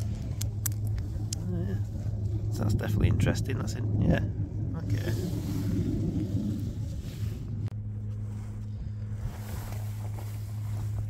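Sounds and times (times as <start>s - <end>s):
heavy machinery humming: 0.0s - 11.0s.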